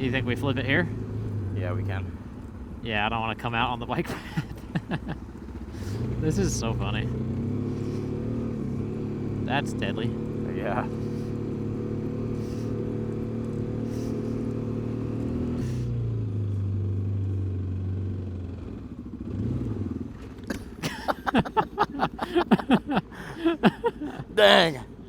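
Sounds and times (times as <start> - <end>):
motorcycle engine running: 0.0 - 3.7, 4.4 - 23.1.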